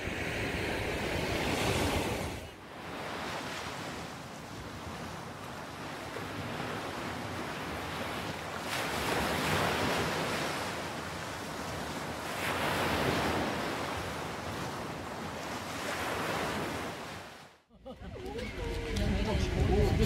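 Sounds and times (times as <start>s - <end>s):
waves washing onto beach: 0.0s - 17.5s.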